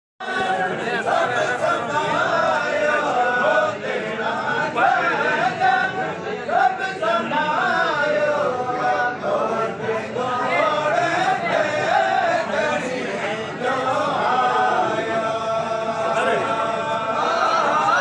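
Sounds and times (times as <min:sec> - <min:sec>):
men chanting together: 0:00.2 - 0:18.0.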